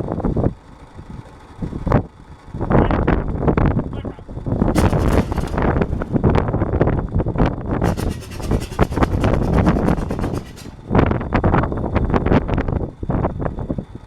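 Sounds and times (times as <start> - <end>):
aero engine running: 0.0 - 14.0.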